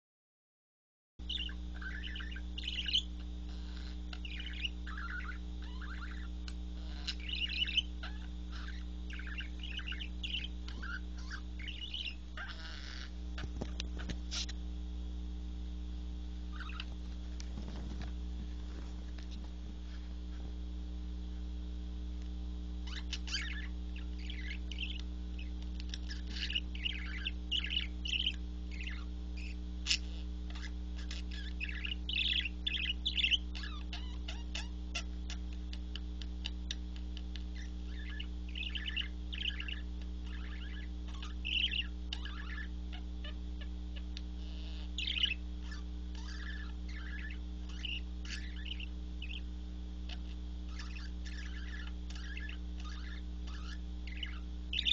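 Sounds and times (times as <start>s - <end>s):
budgerigars chirping: 1.2s - 14.6s, 16.5s - 17.0s, 22.8s - 54.9s
steady low hum: 1.2s - 54.9s.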